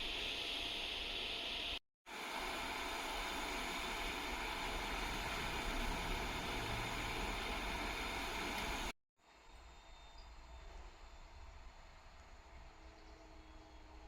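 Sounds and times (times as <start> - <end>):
electric train running: 0.0 - 8.9, 9.6 - 14.0.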